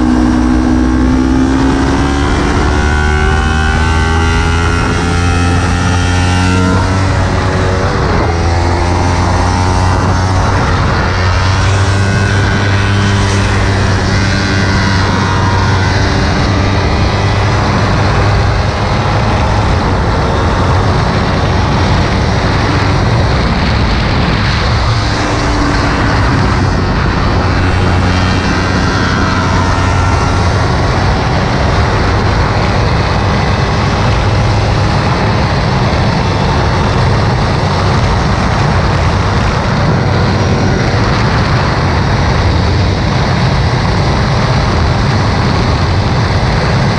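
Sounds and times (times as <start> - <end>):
motorcycle engine revving: 0.0 - 46.9
wind rush: 0.0 - 46.9.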